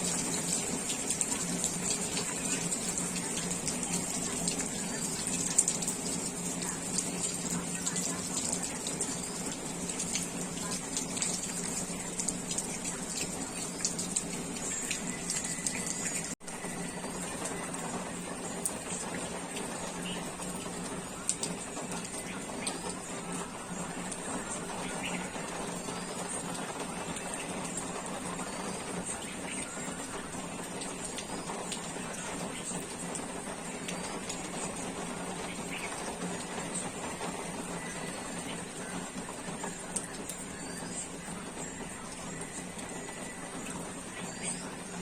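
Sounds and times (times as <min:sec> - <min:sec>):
drips ticking: 0:00.0 - 0:45.0
heavy rain pouring: 0:00.0 - 0:45.0
water running and splashing: 0:00.0 - 0:45.0.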